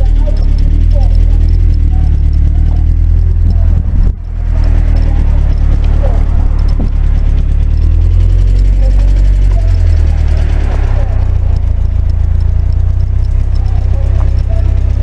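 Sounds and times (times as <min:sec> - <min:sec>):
faint voices: 0:00.0 - 0:15.0
wind and road noise rumble: 0:00.0 - 0:15.0.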